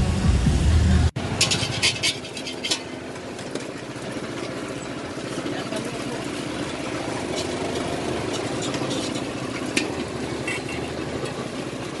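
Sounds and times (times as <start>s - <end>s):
low engine hum: 0.0s - 12.0s
street market background noise: 0.0s - 12.0s.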